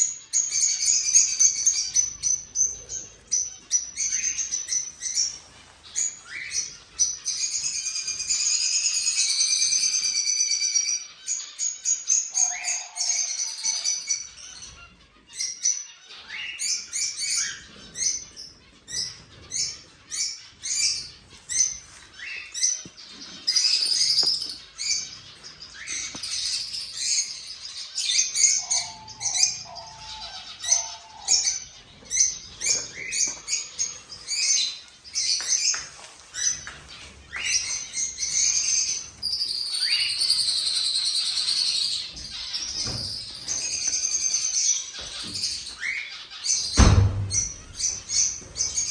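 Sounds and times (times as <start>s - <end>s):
cockatiels chirping and calling: 0.0s - 48.9s.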